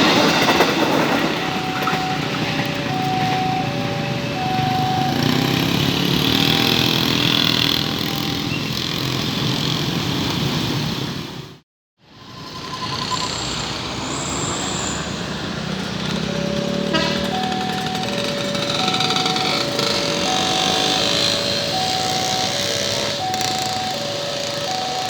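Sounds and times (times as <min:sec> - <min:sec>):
two-tone crossing warning siren: 0:00.0 - 0:09.2, 0:12.1 - 0:25.0
train rumbling over rails: 0:00.0 - 0:25.0.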